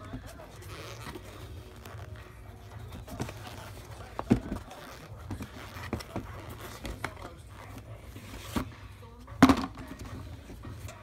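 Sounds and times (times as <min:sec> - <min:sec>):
hands handling sneaker: 0:00.0 - 0:11.0.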